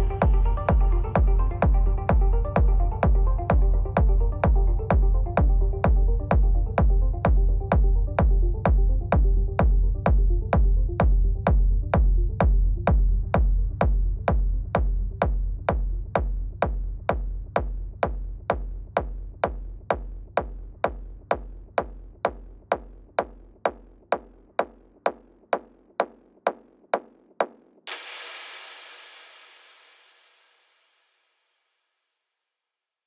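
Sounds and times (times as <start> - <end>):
techno kick drum beat: 0.0 - 30.3.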